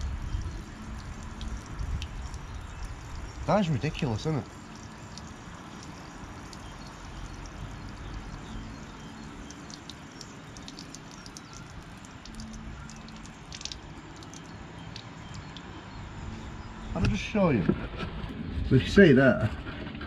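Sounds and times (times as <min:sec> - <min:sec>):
water dripping: 0:00.0 - 0:17.0
water trickling: 0:00.0 - 0:17.6.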